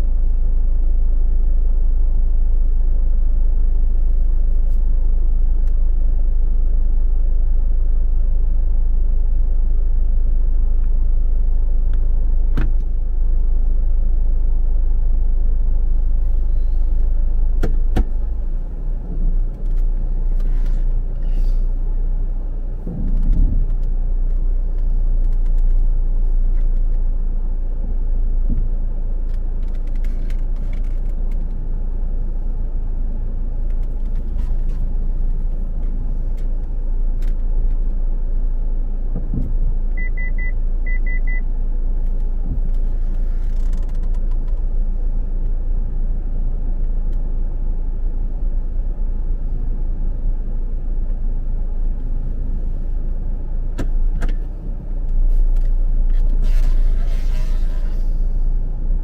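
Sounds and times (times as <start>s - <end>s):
vehicle road noise rumble: 0.0s - 59.0s.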